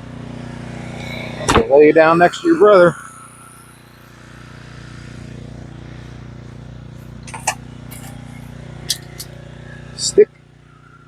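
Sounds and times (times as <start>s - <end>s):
motor humming: 0.0s - 10.1s.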